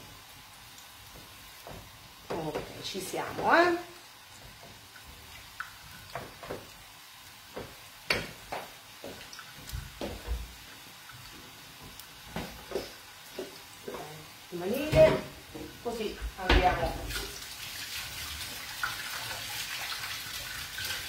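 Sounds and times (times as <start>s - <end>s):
faint meat sizzle: 0.0s - 21.0s.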